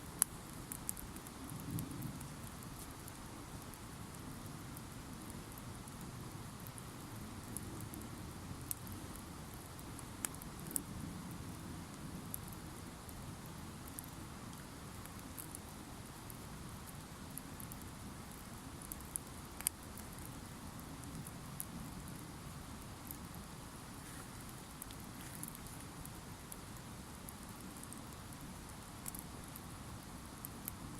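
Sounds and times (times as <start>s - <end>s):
campfire crackling and popping: 0.0s - 30.9s
low rush of flames: 0.0s - 30.9s.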